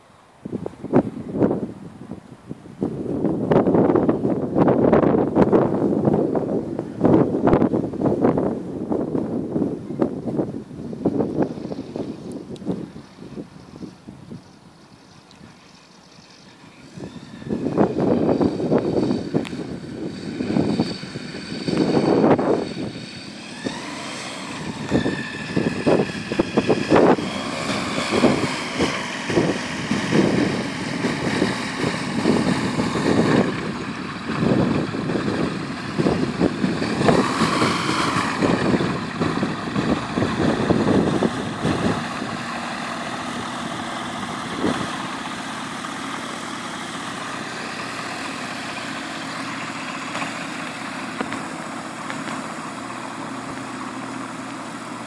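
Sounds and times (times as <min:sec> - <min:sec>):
aircraft engine and propeller idling: 0:00.0 - 0:55.0.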